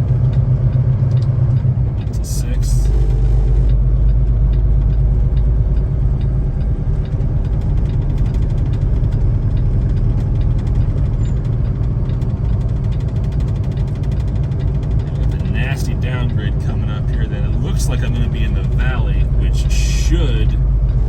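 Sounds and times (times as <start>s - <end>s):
truck engine and road rumble: 0.0s - 21.0s.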